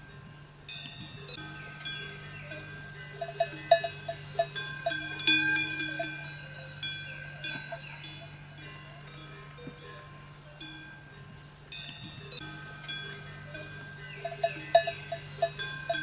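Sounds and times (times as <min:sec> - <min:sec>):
low steady hum: 0:00.0 - 0:16.0
metal bells clinking: 0:00.0 - 0:16.0.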